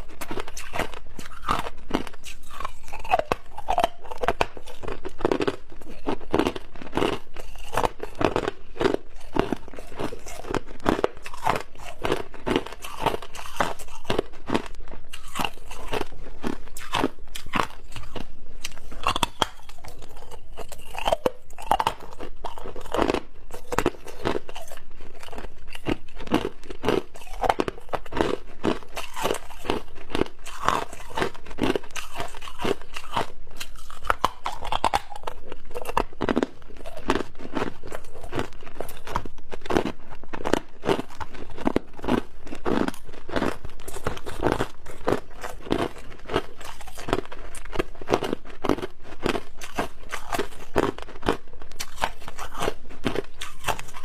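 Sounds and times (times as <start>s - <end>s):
ice being crunched and chewed: 0.0s - 54.0s.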